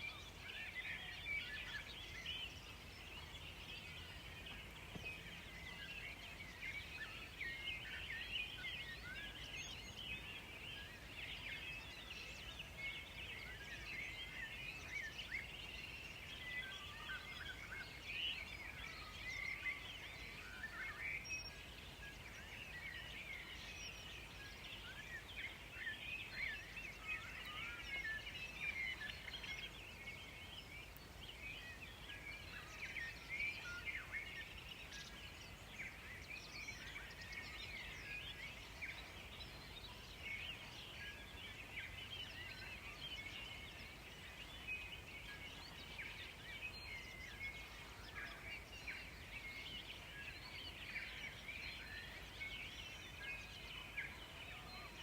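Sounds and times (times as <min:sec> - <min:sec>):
faint low hiss: 0:00.0 - 0:55.0
small birds chirping: 0:00.0 - 0:55.0.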